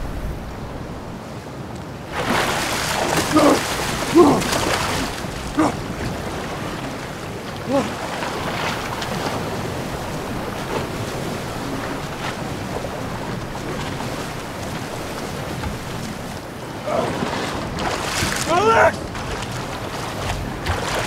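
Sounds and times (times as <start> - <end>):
waves splashing: 0.0 - 21.0
swimming stroke splashes: 2.1 - 21.0.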